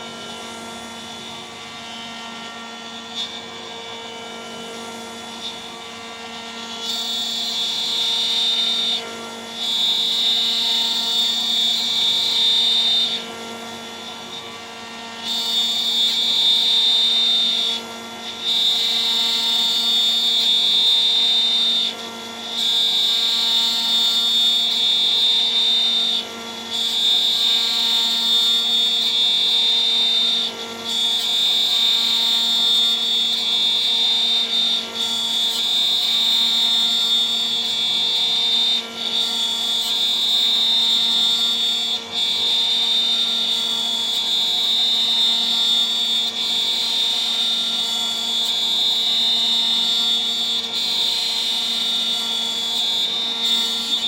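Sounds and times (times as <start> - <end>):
router spindle running: 0.0 - 54.0.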